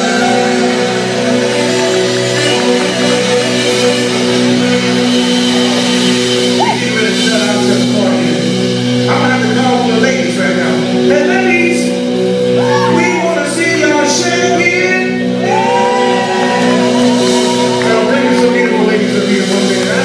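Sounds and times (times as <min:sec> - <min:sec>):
live blues band playing: 0:00.0 - 0:20.0.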